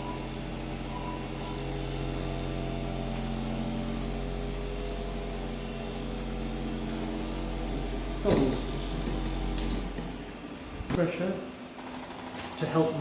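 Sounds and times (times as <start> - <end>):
small machine electric hum: 0.0 - 13.0.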